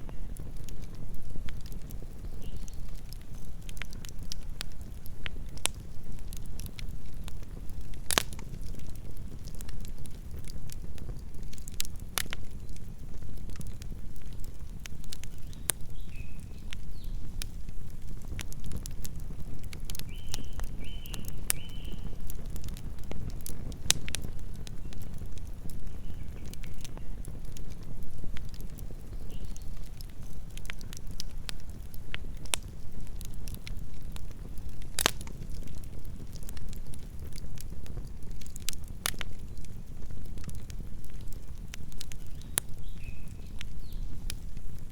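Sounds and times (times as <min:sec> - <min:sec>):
campfire crackling and popping: 0:00.0 - 0:44.9
low rumble of flames: 0:00.0 - 0:44.9.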